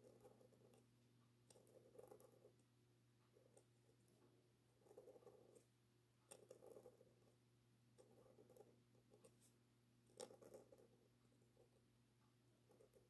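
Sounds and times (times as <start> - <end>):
pen nib scratching on paper: 0.0 - 2.6, 3.2 - 7.3, 8.0 - 11.8, 12.6 - 13.0
faint steady hum: 0.0 - 13.0.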